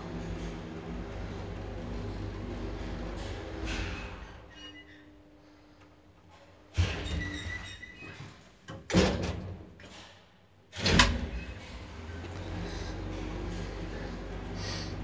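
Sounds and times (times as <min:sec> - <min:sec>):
elevator doors closing: 0:00.0 - 0:05.1, 0:06.3 - 0:10.0, 0:10.7 - 0:15.0
elevator low hum: 0:00.0 - 0:08.3, 0:10.8 - 0:15.0.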